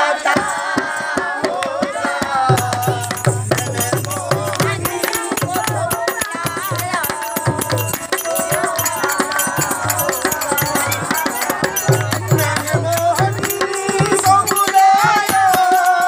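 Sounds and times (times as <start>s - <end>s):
clapping and hand percussion: 0.0s - 16.0s
dholak drum: 0.0s - 16.0s
group of voices singing: 0.0s - 16.0s.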